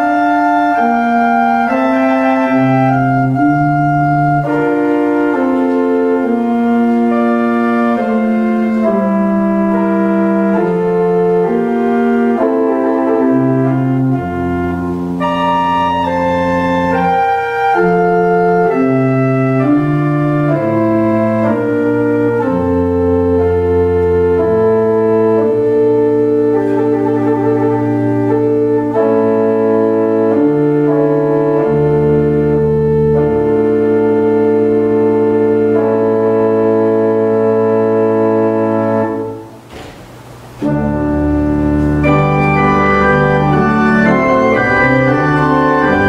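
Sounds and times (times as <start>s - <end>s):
organ playing slow chords: 0.0s - 46.0s.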